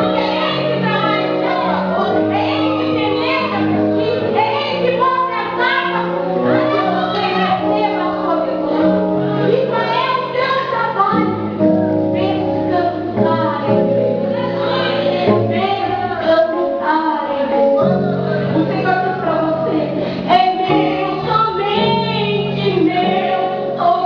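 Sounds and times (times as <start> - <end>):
instrumental accompaniment: 0.0 - 24.0
woman singing gospel song: 0.0 - 24.0.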